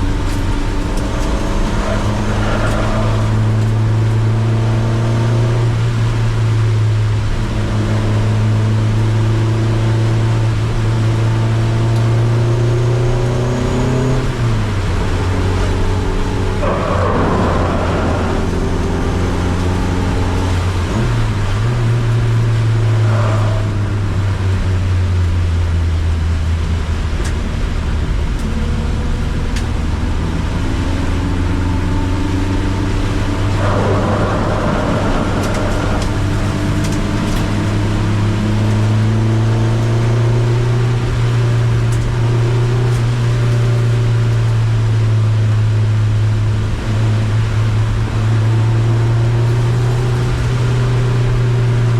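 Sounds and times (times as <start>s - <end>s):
car engine revving and shifting gears: 0.0s - 51.9s.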